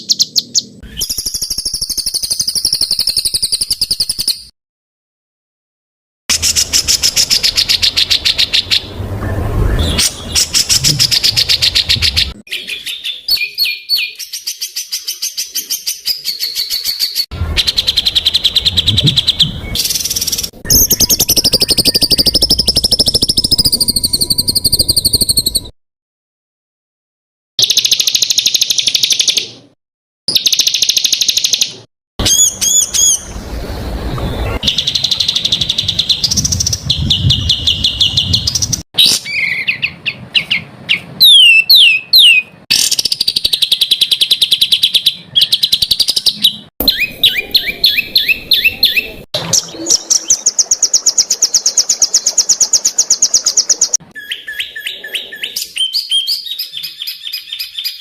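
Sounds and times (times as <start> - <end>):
songbird harsh notes and trills: 6.3 - 25.7, 30.3 - 58.0.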